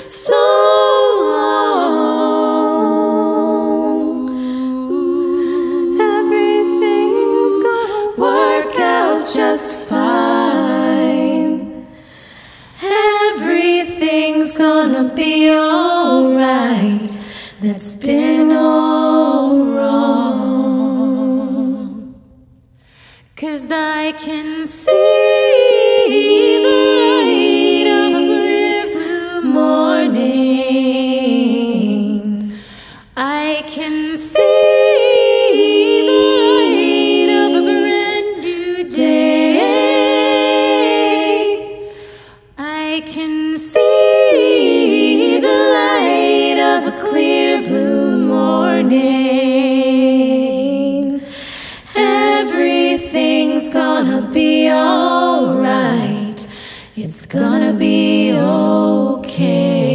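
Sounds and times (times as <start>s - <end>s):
women singing a cappella harmony: 0.0s - 59.9s.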